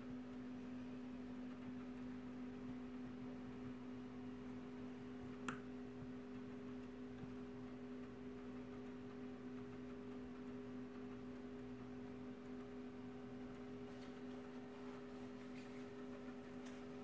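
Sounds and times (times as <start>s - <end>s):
computer equipment hum: 0.0s - 17.0s.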